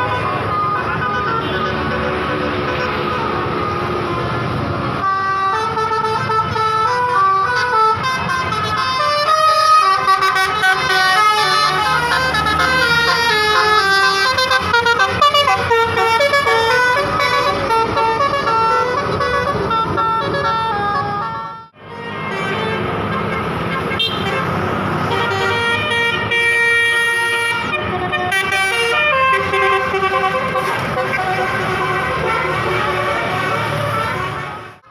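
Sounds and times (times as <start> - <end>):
multi-tone musical bus horn: 0.0 - 34.9.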